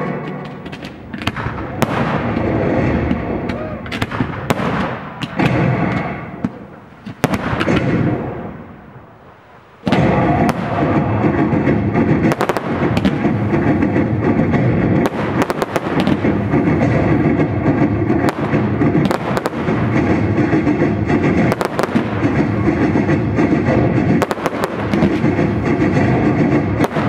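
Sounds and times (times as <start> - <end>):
firework shells banging: 0.0 - 27.0
fireworks crackling: 0.0 - 27.0.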